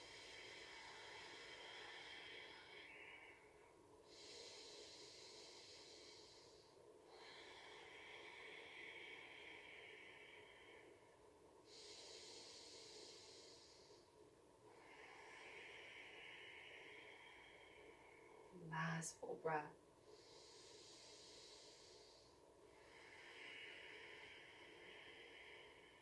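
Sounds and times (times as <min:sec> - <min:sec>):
woman breathing slowly: 0:00.0 - 0:26.0.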